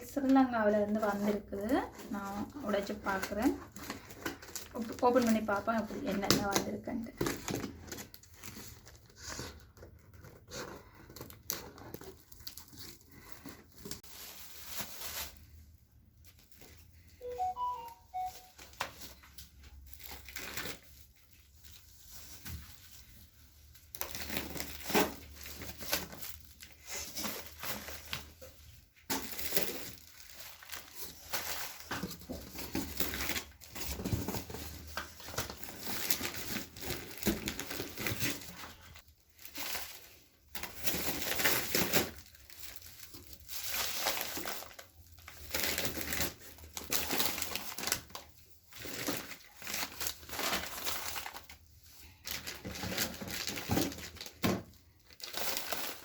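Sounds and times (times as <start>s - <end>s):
wrapping paper tearing and rustling: 0.0s - 56.0s.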